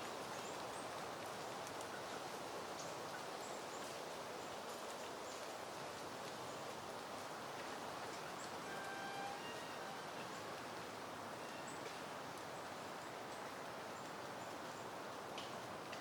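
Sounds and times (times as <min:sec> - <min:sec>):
wind rustling leaves: 0:00.0 - 0:16.0.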